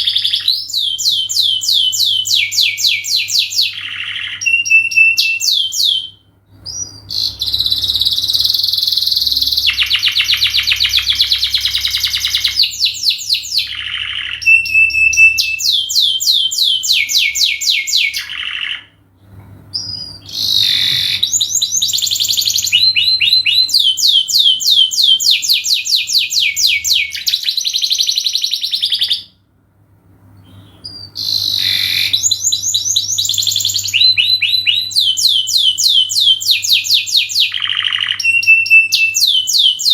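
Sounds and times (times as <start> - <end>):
canary singing trills: 0.0 - 19.0, 19.7 - 29.4, 30.4 - 39.9.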